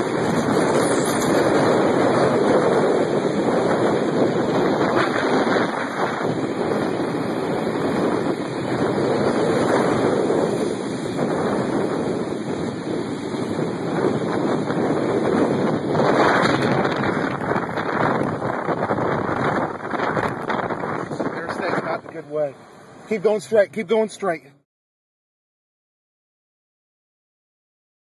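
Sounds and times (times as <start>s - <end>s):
strong wind buffeting microphone: 0.0s - 24.2s.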